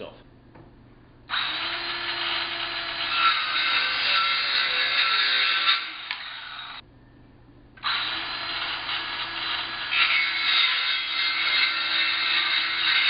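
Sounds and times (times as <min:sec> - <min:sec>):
saw cutting through wood: 0:01.3 - 0:06.8, 0:07.8 - 0:13.0.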